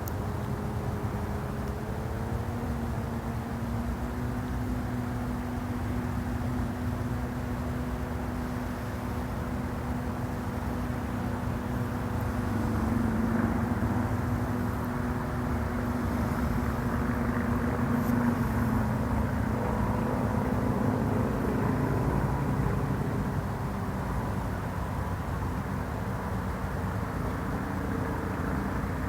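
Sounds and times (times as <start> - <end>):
engine drone: 0.0 - 29.0.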